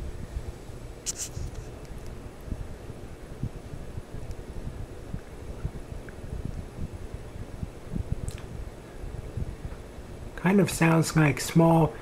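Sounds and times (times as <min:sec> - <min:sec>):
ceiling fan whooshing: 0:00.0 - 0:12.0.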